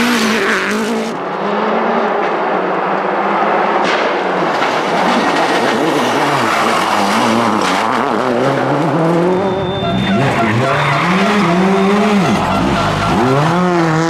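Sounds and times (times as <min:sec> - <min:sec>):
rally car engine passing: 0:00.0 - 0:14.0.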